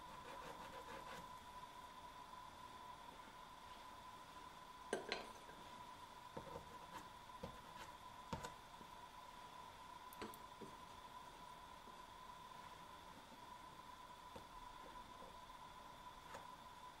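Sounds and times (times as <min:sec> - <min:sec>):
faint high-pitched hum: 0:00.0 - 0:17.0.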